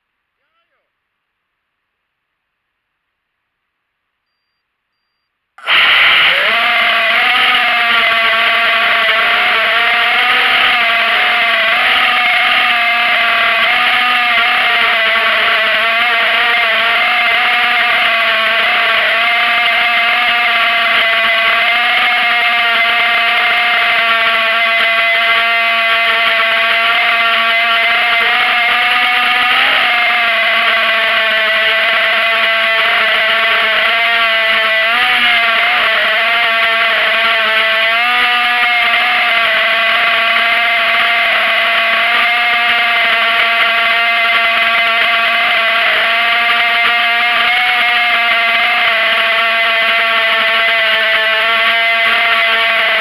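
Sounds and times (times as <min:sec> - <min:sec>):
quadcopter motors whining: 0:05.6 - 0:53.0.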